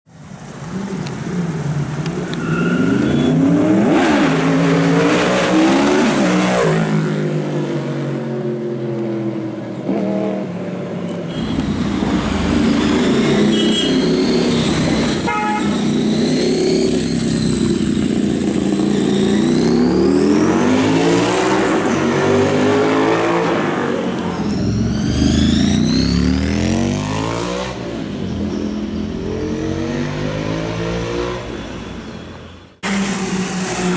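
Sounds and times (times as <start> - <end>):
motorcycle engines revving: 0.2 - 33.9.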